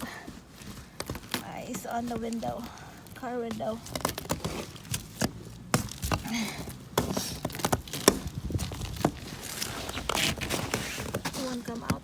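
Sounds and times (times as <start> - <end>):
ice crust cracking: 0.0 - 12.0.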